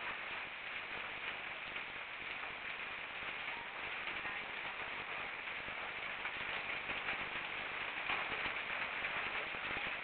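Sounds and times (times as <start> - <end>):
steady hiss with fine crackle: 0.0 - 10.0.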